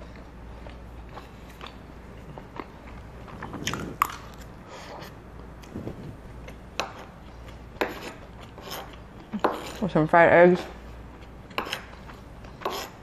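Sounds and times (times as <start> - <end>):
person chewing food: 0.0 - 9.8, 10.7 - 13.0.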